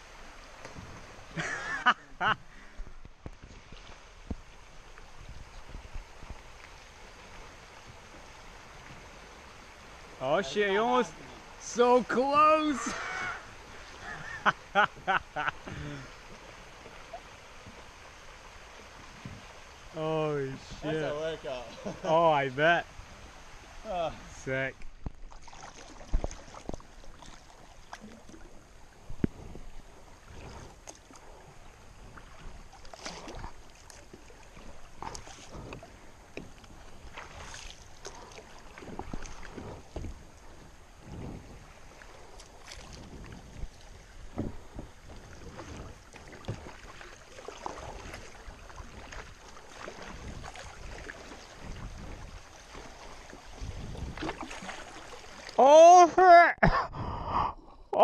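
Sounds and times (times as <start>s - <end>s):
paddle splashing: 0.0s - 56.8s
moving water: 0.0s - 58.0s.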